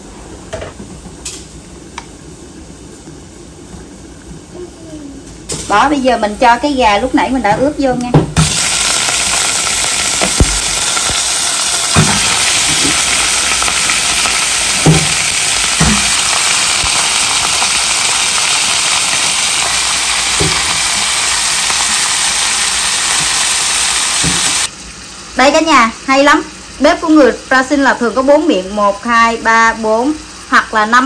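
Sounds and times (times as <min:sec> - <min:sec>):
chicken sizzling in oil: 0:05.5 - 0:31.0.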